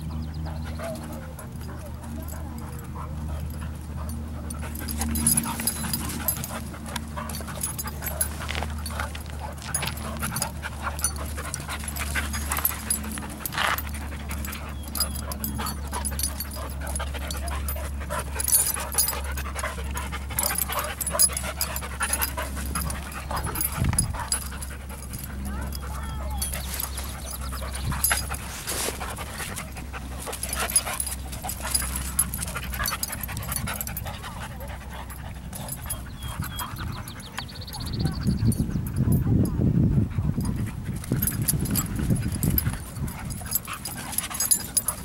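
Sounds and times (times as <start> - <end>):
dogs play wrestling: 0.0 - 45.0.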